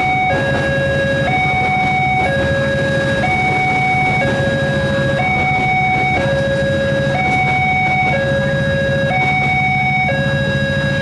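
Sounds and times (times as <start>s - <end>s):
electric train rumbling past: 0.0s - 11.0s
level crossing two-tone alarm: 0.0s - 11.0s.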